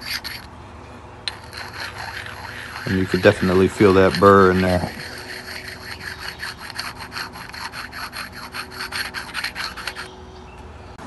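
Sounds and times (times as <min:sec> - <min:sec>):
stone scraping on metal: 0:00.0 - 0:00.5, 0:01.3 - 0:10.1.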